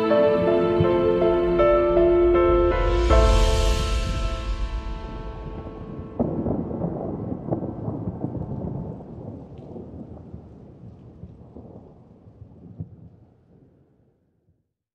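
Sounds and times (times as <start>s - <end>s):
rain: 0.0s - 13.7s
rumbling thunder: 0.0s - 13.7s.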